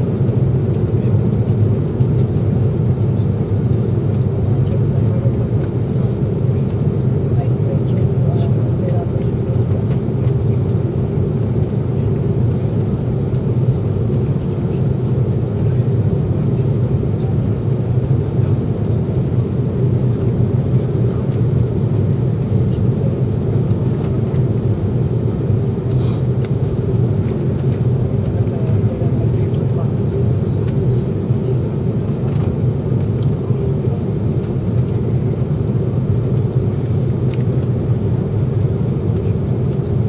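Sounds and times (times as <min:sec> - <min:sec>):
airliner cabin low rumble: 0:00.0 - 0:40.0.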